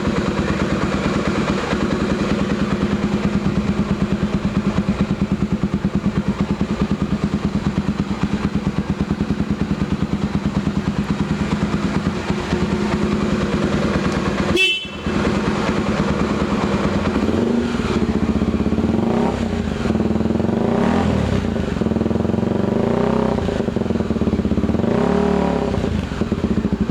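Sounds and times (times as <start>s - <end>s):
motorcycle engine idling: 0.0s - 26.9s
motorcycle throttle blips: 0.0s - 26.9s.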